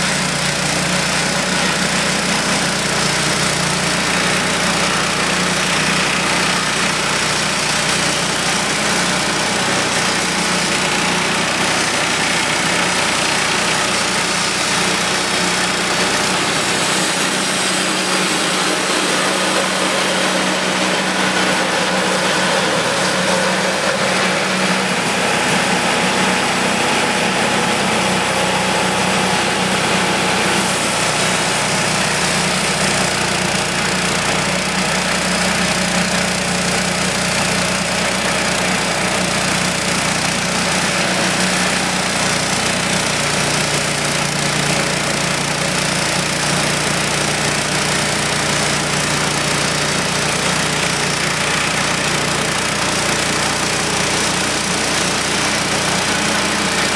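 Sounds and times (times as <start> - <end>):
bandsaw mill cutting log: 0.0 - 56.9.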